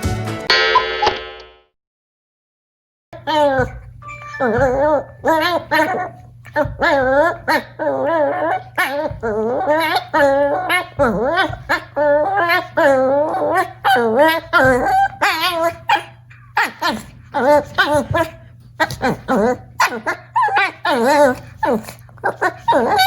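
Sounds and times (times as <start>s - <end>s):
puppy whining and yowling: 3.2s - 23.0s.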